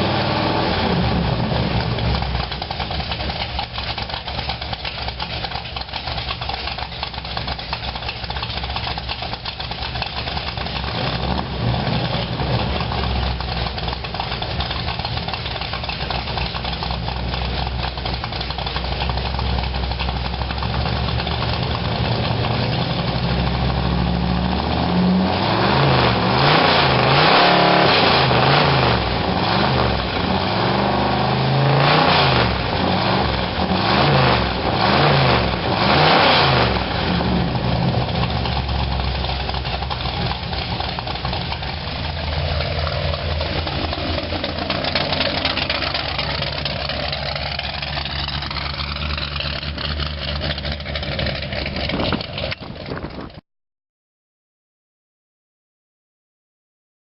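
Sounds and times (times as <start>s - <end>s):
truck engine idling and revving: 0.0s - 53.4s.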